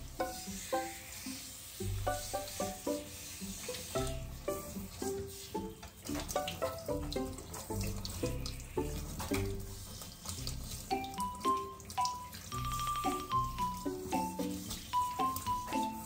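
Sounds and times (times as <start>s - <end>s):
water spraying from shower head: 0.0s - 16.0s
melodic background music: 1.8s - 9.9s, 10.5s - 16.0s.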